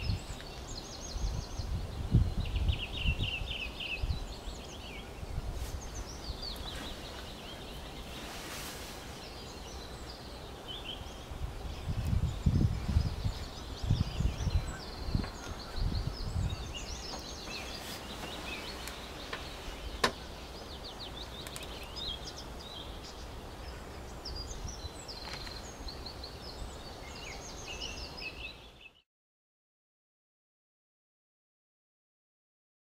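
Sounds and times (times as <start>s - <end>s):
wind rumble on microphone: 0.0s - 28.6s
small birds chirping: 0.0s - 29.0s.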